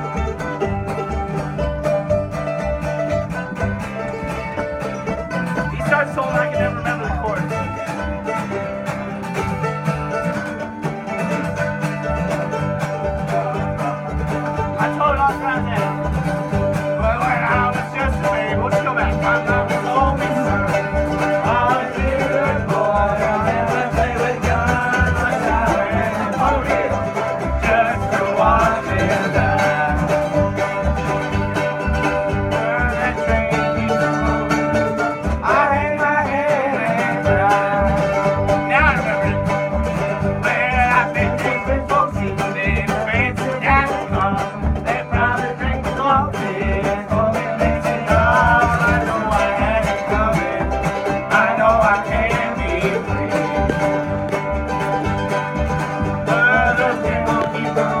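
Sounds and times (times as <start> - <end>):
acoustic guitar picking: 0.0 - 58.0
banjo picking: 0.0 - 58.0
mandolin picking: 0.0 - 58.0
upright bass beat: 0.0 - 58.0.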